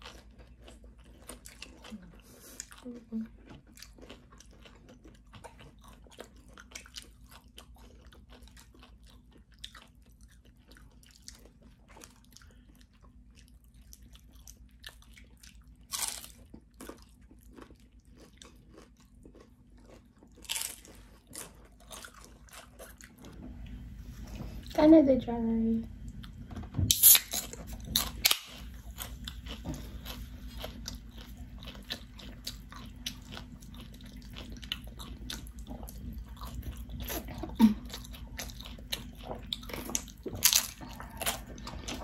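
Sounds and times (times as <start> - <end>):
crunching tortilla chips: 3.4 - 23.2, 27.0 - 42.0.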